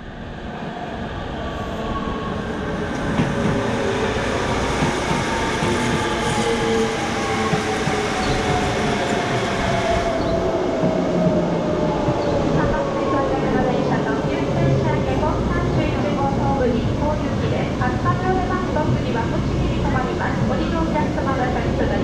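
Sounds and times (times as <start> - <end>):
train wheels rumbling on rails: 2.5 - 22.0.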